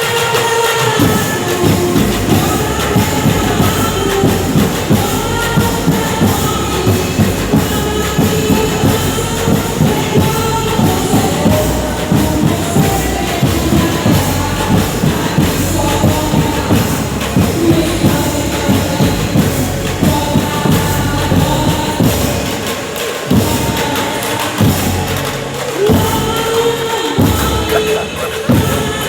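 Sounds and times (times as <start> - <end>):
music with fast beat: 0.0 - 29.0.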